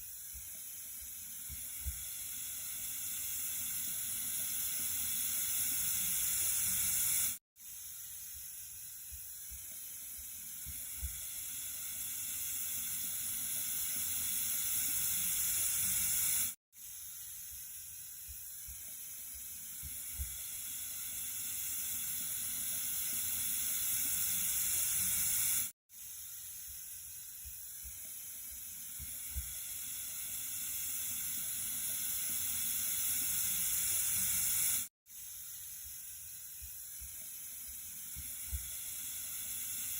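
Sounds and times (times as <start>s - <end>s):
running water hissing: 0.0s - 39.9s.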